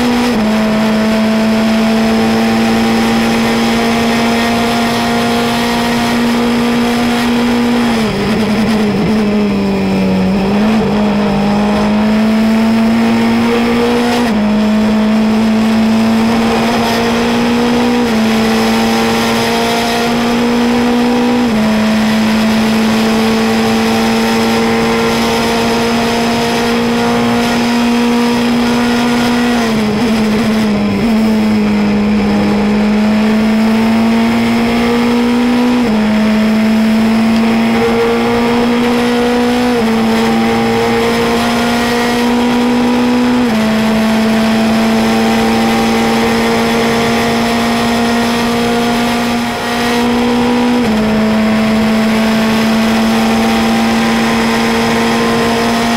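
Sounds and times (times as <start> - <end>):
race car engine at high revs: 0.0 - 55.9.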